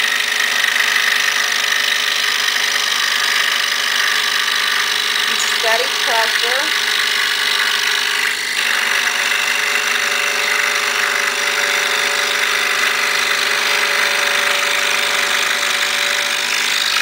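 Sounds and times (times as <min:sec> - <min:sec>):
scroll saw cutting wood: 0:00.0 - 0:17.0.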